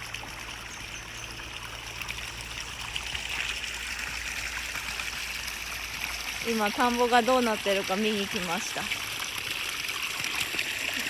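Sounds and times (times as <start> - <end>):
water trickling into rice paddy: 0.0 - 11.0.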